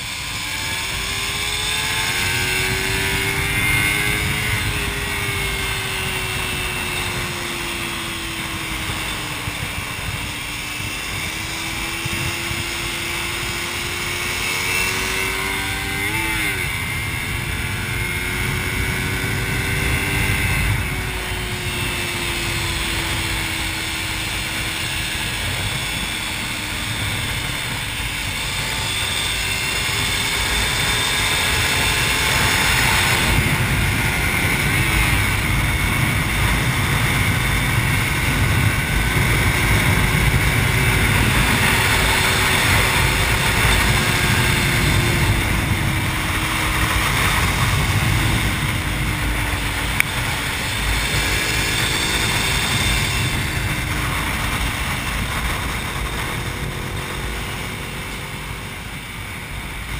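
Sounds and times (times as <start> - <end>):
motorcycle engine at speed: 0.0 - 59.9
wind rush over microphone: 0.0 - 59.9.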